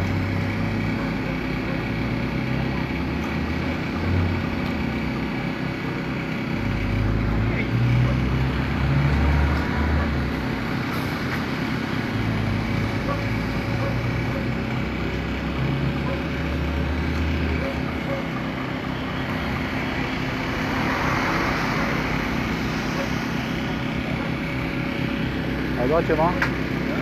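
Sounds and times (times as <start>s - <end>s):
road traffic noise: 0.0s - 27.0s
vehicle engine humming: 0.0s - 27.0s.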